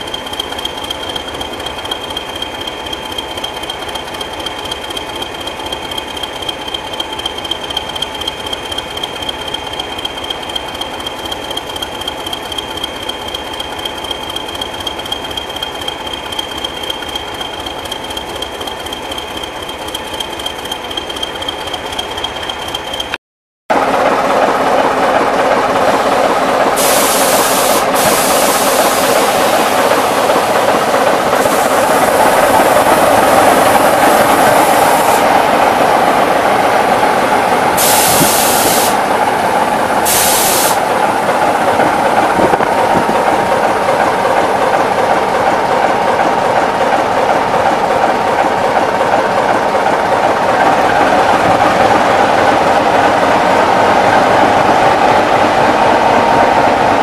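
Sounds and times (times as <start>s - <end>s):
diesel locomotive idling: 0.0s - 57.0s
diesel train working: 0.0s - 57.0s.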